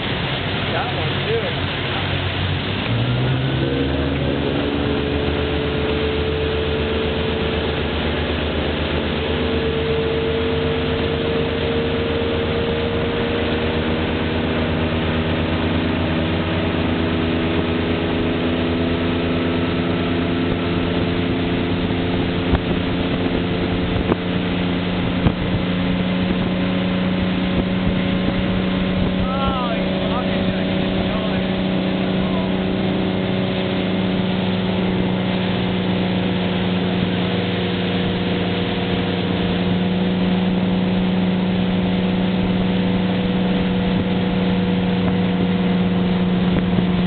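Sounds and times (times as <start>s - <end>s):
motorboat engine running: 0.0s - 47.0s
wake rushing: 0.0s - 47.0s
wind: 0.0s - 47.0s.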